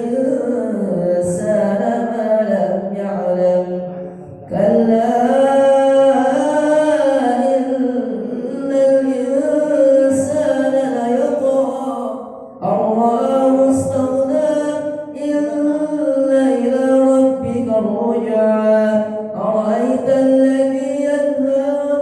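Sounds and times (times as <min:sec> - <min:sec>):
person chanting recitation: 0:00.0 - 0:22.0.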